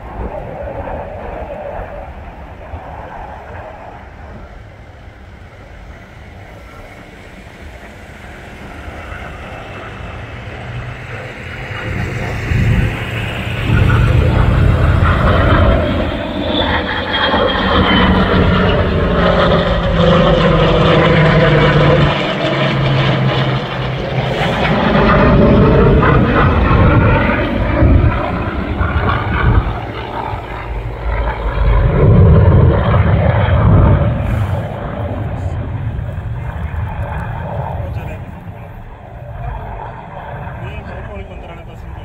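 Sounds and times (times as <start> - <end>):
airplane flying overhead: 0.0 - 42.0.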